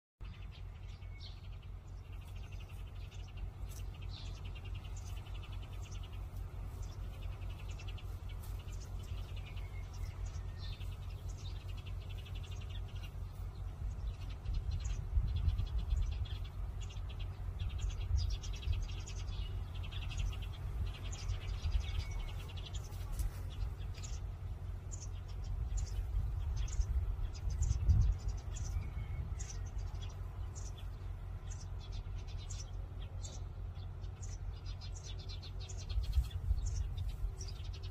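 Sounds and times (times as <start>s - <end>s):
birds chirping: 0.2s - 37.9s
steady low rumble: 0.2s - 37.9s.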